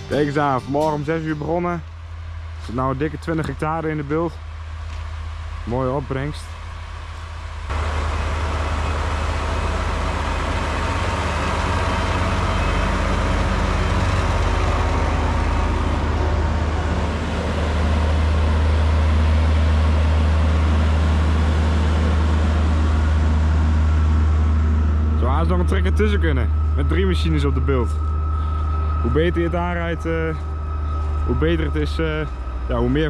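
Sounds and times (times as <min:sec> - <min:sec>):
heavy diesel engines droning: 0:00.0 - 0:33.0.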